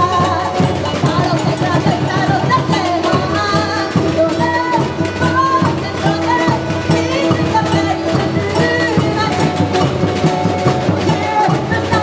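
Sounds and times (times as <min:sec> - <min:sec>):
samba drums and percussion: 0:00.0 - 0:12.0.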